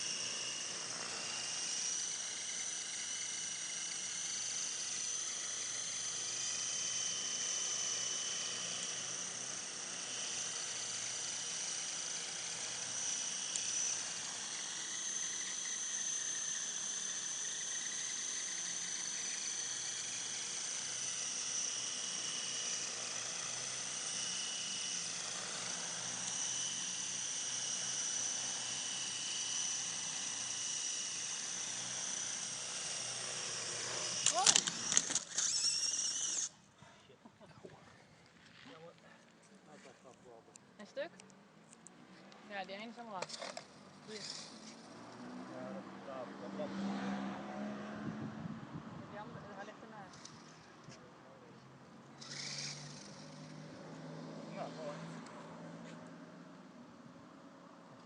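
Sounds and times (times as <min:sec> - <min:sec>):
model helicopter whine: 0:00.0 - 0:36.8, 0:37.6 - 0:58.0.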